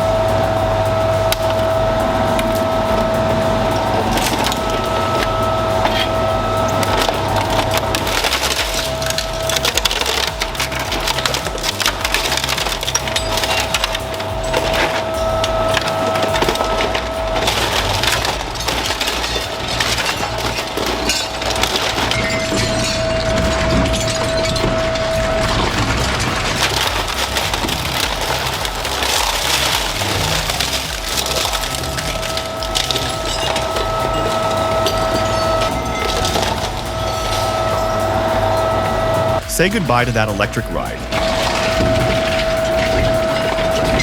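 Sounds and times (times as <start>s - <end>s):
material crackling and snapping: 0.0s - 39.4s, 41.0s - 44.0s
shredder motor whine: 0.0s - 39.5s, 41.0s - 44.0s.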